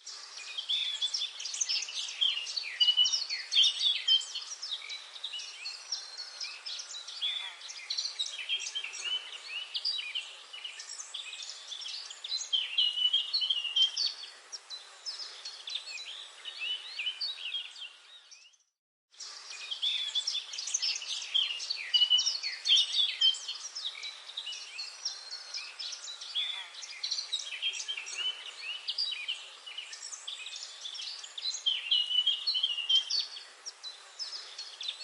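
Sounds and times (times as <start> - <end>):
faint background hiss: 0.0 - 18.3, 19.2 - 35.0
small birds chirping and whistling: 0.0 - 35.0.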